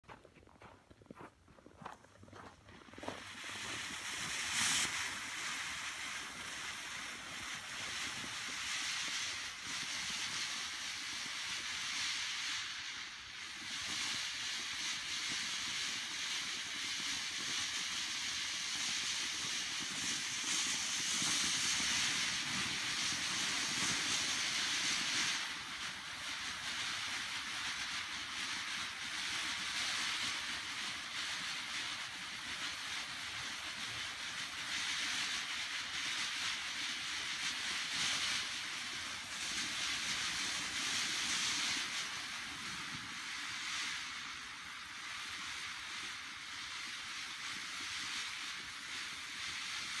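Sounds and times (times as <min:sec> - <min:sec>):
firework fountain hissing: 0:01.8 - 0:50.0.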